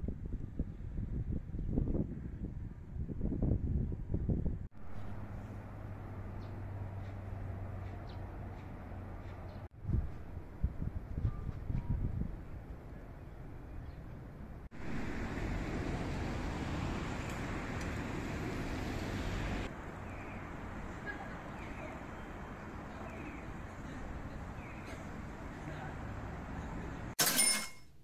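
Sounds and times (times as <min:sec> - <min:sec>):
city street traffic: 0:04.6 - 0:27.7.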